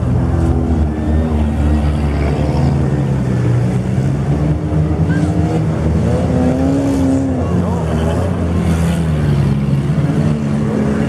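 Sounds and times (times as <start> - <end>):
several car engines running: 0.0 - 11.0.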